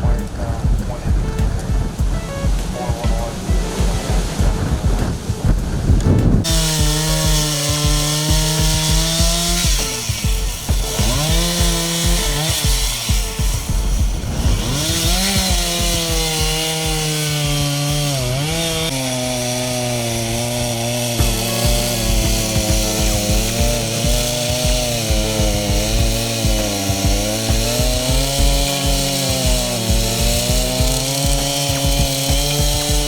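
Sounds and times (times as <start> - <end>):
chainsaw cutting wood: 6.2 - 33.0.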